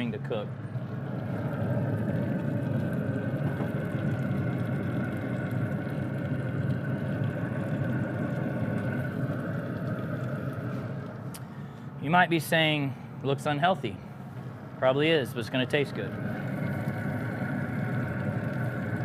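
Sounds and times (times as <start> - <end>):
mechanical hum with low drone: 0.0 - 19.0.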